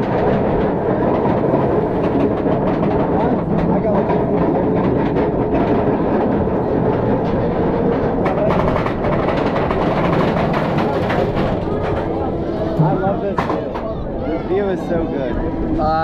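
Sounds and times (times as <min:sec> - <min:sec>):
rapid clicking of anti-rollback dogs: 0:00.0 - 0:13.9.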